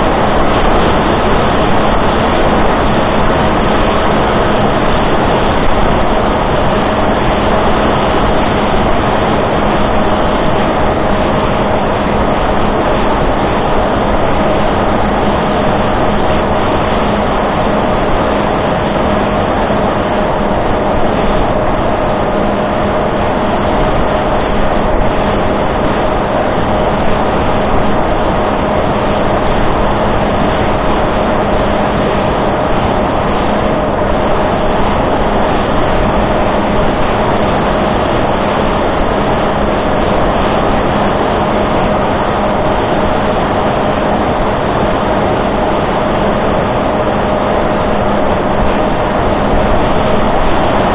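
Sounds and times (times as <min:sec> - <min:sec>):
electric motor and propeller drone: 0:00.0 - 0:50.9
rush of air: 0:00.0 - 0:50.9.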